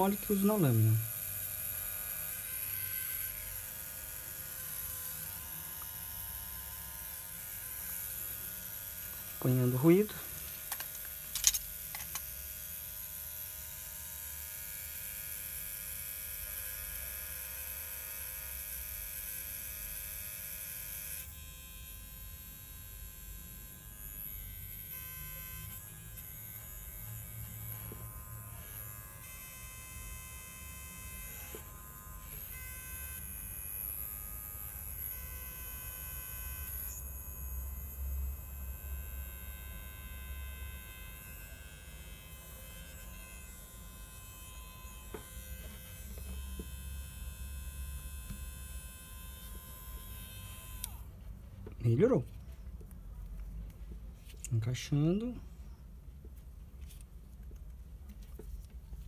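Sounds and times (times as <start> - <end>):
electric trimmer motor buzzing: 0.0 - 51.1.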